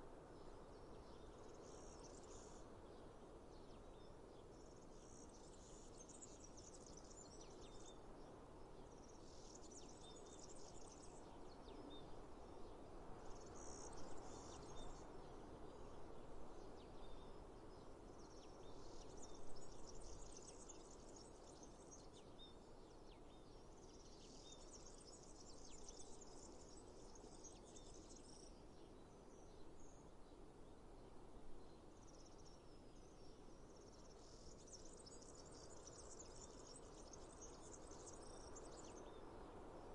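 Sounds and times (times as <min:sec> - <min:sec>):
insects and birds chirping: 0:00.0 - 0:39.9.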